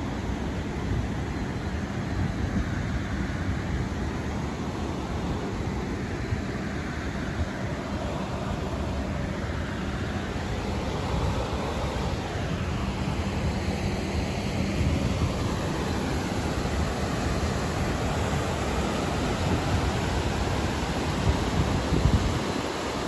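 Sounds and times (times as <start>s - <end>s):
river water rushing through floodgates: 0.0s - 23.0s.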